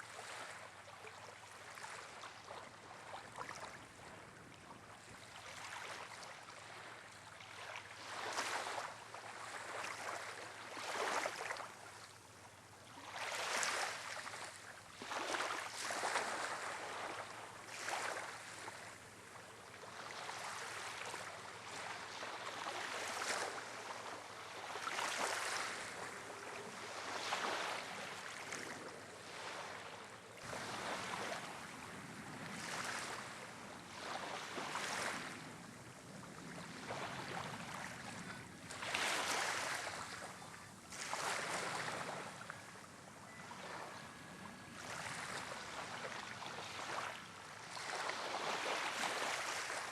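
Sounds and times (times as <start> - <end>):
waves breaking on shore: 0.0 - 49.9.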